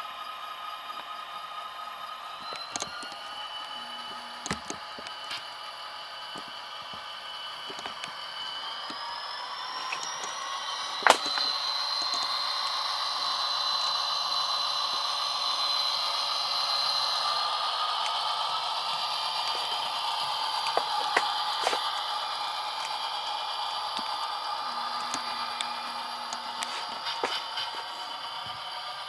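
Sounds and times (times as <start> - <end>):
model train diesel engine sound: 0.0 - 29.0.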